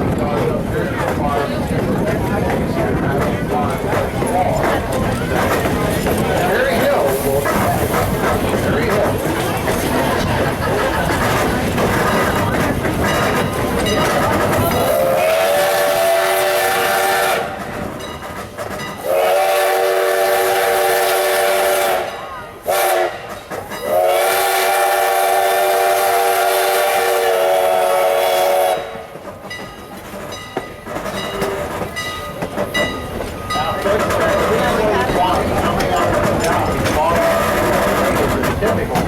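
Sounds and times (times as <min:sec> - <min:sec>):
train running noise: 0:00.0 - 0:39.0
train wheel clatter: 0:00.0 - 0:39.0.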